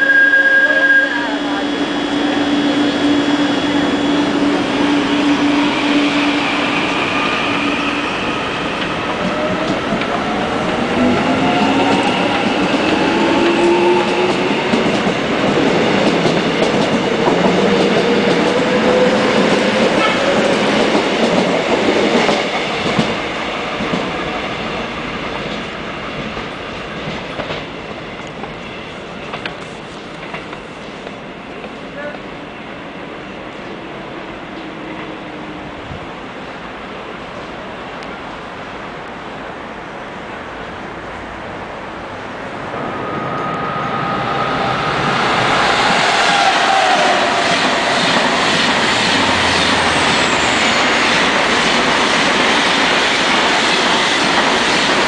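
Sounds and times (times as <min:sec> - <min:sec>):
train wheels rumbling on rails: 0:01.2 - 0:39.7, 0:40.3 - 0:55.0.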